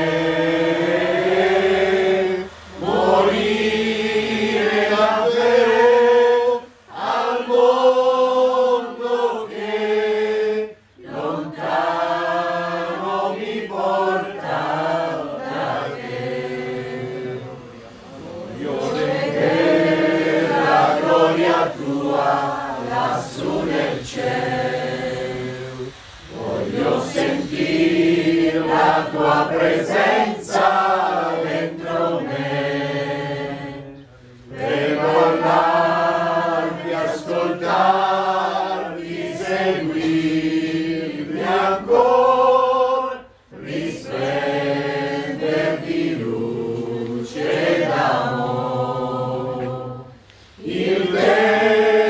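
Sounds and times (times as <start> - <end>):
women singing a hymn: 0.0 - 52.0.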